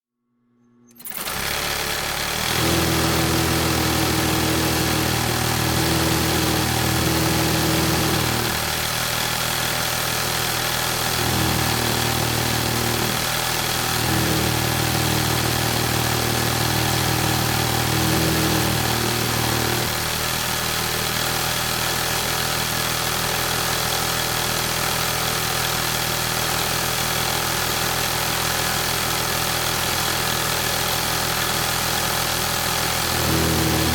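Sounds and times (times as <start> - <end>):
sewing machine running: 0.9 - 33.9.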